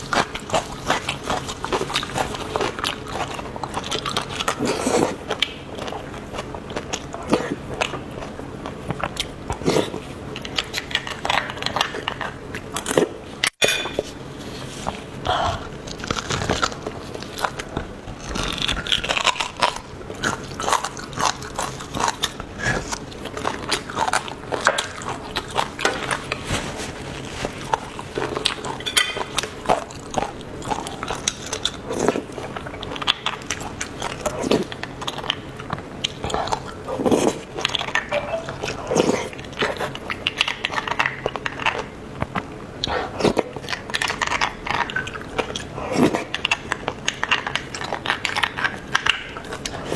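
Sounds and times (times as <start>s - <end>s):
biting and chewing: 0.0s - 49.9s.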